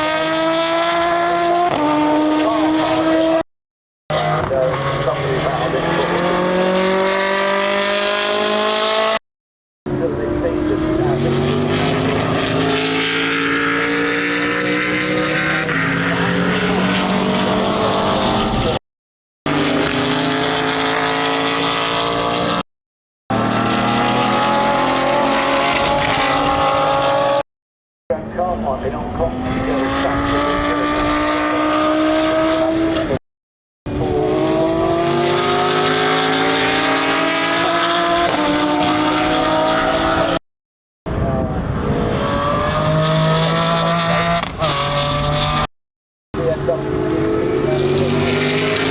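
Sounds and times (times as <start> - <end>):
racing car engine at high revs: 0.0 - 3.5, 4.1 - 9.2, 9.9 - 18.8, 19.5 - 22.6, 23.3 - 27.4, 28.1 - 33.2, 33.9 - 40.4, 41.1 - 45.7, 46.4 - 48.9.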